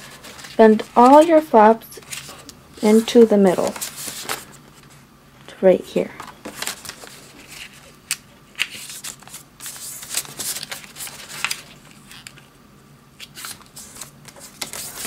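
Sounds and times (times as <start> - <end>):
paper folding and creasing: 0.0 - 4.9, 6.4 - 12.4, 13.2 - 15.0.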